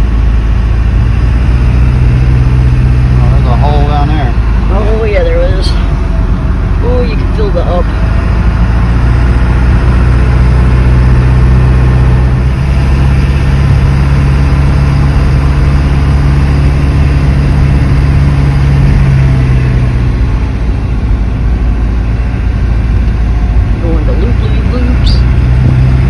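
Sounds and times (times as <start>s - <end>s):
vehicle engine drone: 0.0s - 26.0s.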